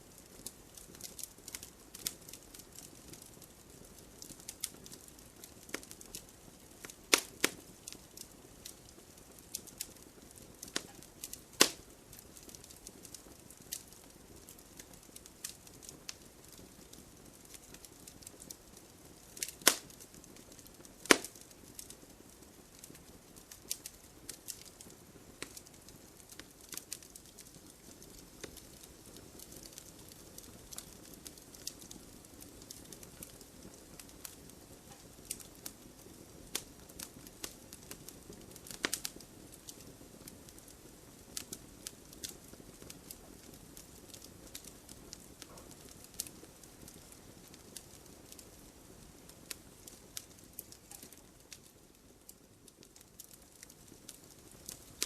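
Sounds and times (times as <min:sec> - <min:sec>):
low hiss of flames: 0:00.0 - 0:55.0
wood fire crackling: 0:00.0 - 0:55.0.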